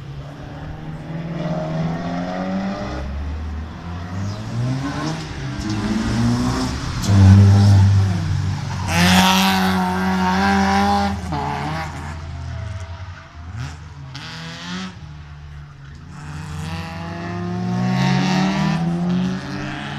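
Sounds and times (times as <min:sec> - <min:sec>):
race car engine revving: 0:00.0 - 0:19.9.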